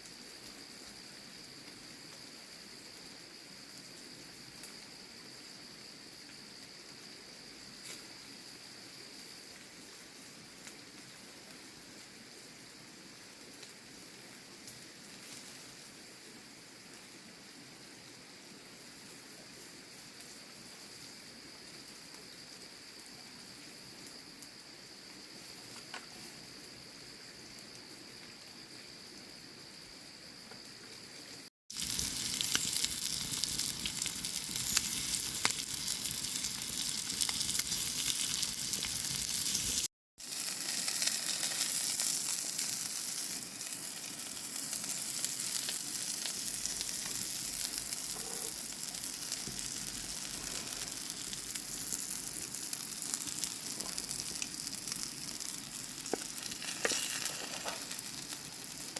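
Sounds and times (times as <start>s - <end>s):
food sizzling in a pan: 0.0s - 27.7s, 31.0s - 58.9s
quiet hiss with thin high tone: 0.0s - 58.9s.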